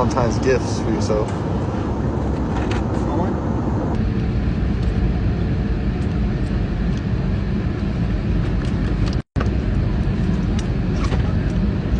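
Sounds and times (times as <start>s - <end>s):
vehicle cabin rumble: 0.0s - 11.9s.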